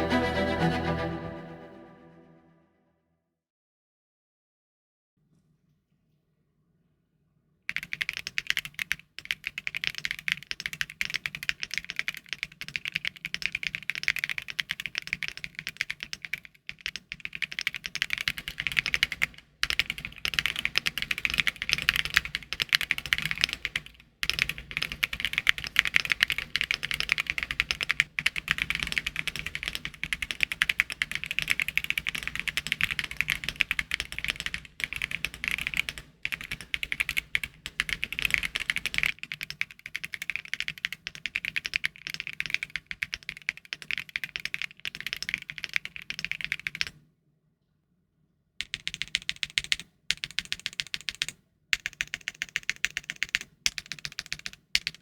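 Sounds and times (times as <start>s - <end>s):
fast mechanical keyboard typing: 7.7s - 47.0s, 48.6s - 55.0s.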